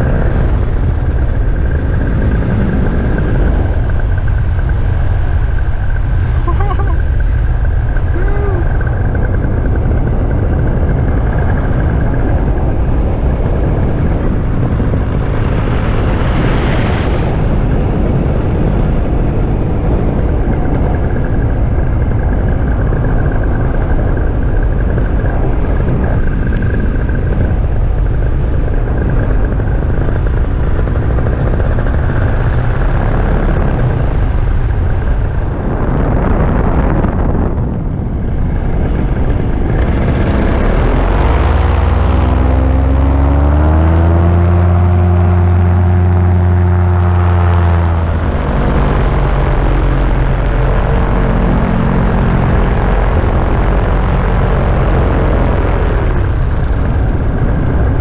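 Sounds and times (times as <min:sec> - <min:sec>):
paramotor engine and propeller: 0:00.0 - 0:58.0
wind rushing past: 0:00.0 - 0:58.0.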